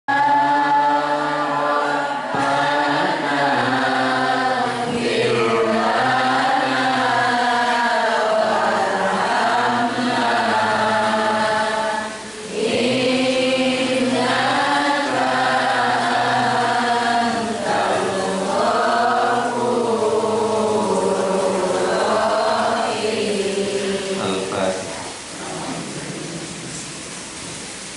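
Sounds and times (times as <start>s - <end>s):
voices chanting in unison: 0.1s - 26.5s.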